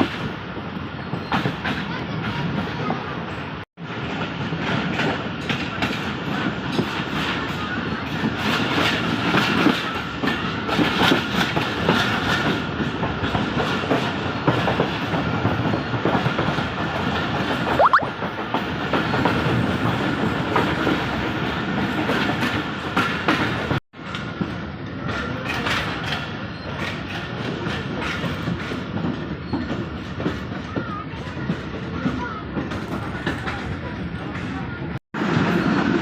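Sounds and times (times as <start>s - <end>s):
train rumble: 0.0s - 36.0s
train wheels clattering over rail joints: 4.0s - 17.6s, 18.8s - 36.0s.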